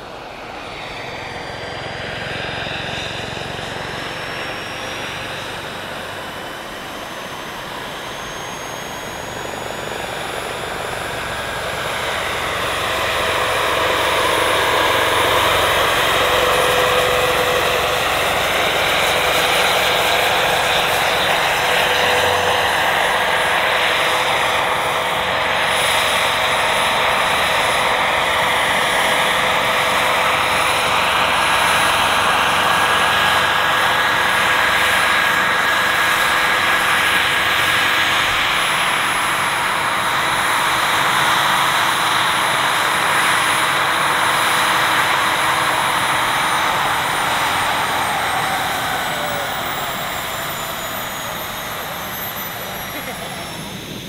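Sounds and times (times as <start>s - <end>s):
model helicopter turbine whine: 0.0s - 54.0s
rotor blades rushing: 0.1s - 54.0s.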